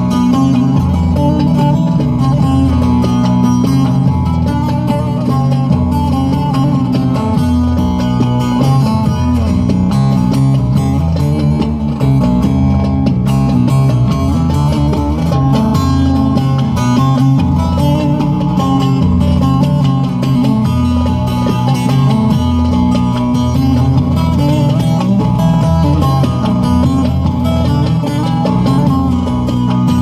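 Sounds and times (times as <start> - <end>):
hand drums rhythm: 0.0 - 30.0
plucked long-necked lute melody: 0.0 - 30.0.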